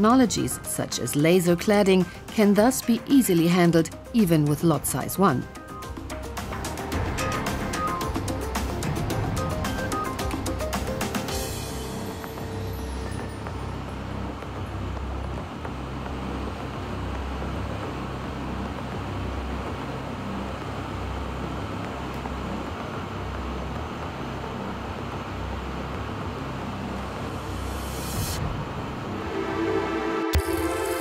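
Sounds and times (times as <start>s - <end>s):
industrial machine rumble: 4.9s - 31.0s.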